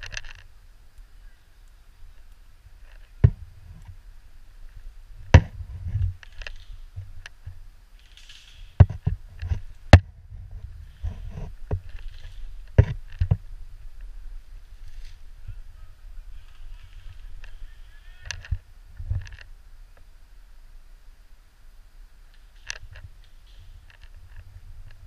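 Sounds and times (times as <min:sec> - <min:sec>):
rustling through brush: 0:00.0 - 0:21.4.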